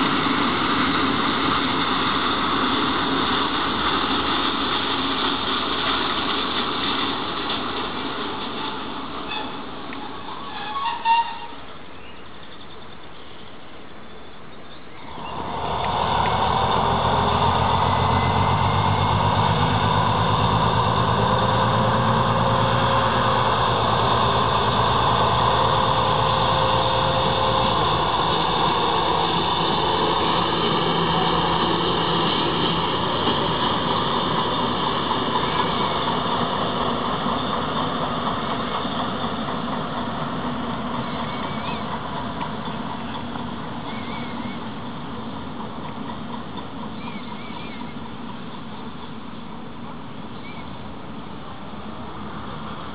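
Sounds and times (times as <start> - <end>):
diesel locomotive engines: 0.0 - 52.9
train wheels rolling on rails: 0.0 - 52.9.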